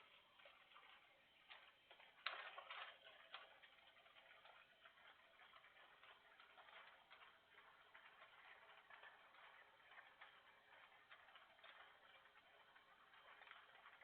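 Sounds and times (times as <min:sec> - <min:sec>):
faint clicking and ticking: 0:00.0 - 0:14.0.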